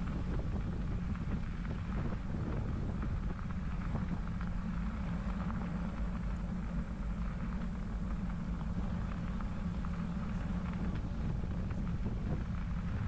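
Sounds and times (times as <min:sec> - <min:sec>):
bicycle tyres rolling on wet gravel: 0:00.0 - 0:13.0
crackles of grit: 0:00.0 - 0:13.0.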